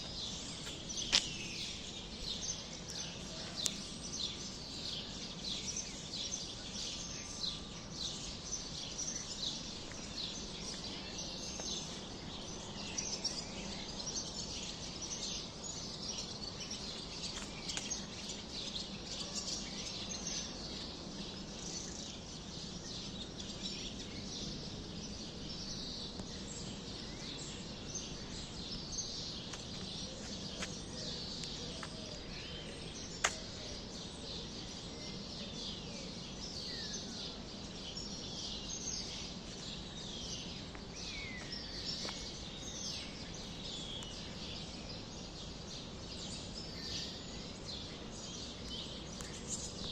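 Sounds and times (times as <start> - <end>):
background noise: 0.0 - 49.9
sparrows chirping: 0.0 - 49.9.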